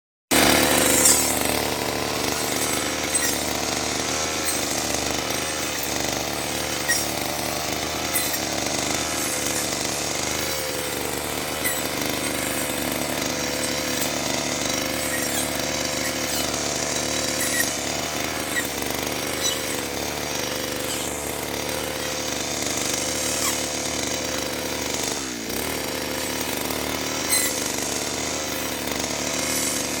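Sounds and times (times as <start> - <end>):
grass cutter engine running: 0.3 - 30.0.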